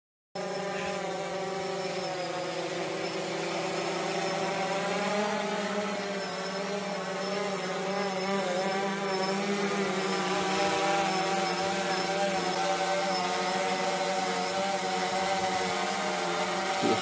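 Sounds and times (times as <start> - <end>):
drone propellers whining: 0.4 - 17.0.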